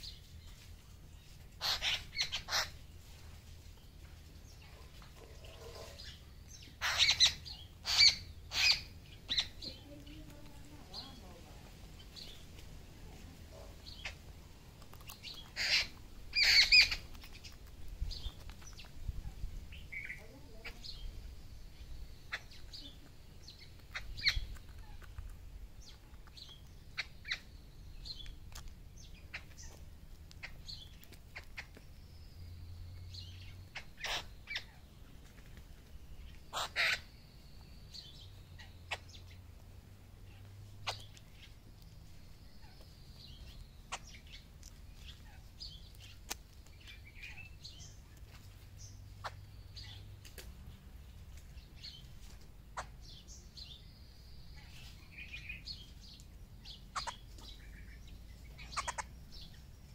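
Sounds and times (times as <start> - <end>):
birds chirping: 0.0 - 59.9
birds pecking grain: 0.0 - 59.9.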